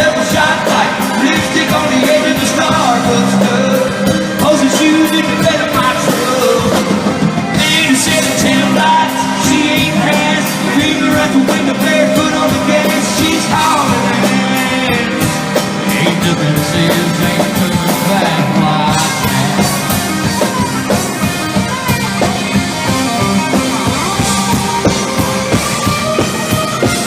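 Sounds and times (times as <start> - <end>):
person singing: 0.0 - 27.0
rock and roll band playing: 0.0 - 27.0.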